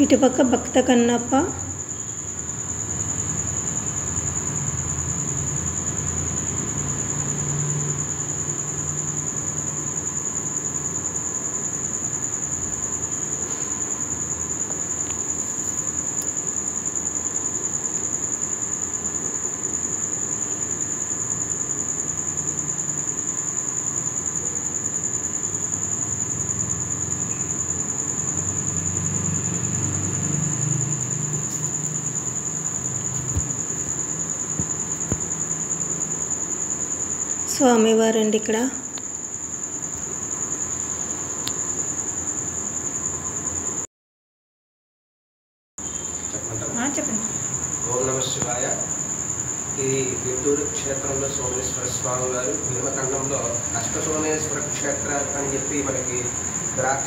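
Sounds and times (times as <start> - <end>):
crickets trilling: 0.0 - 43.9, 45.8 - 57.0.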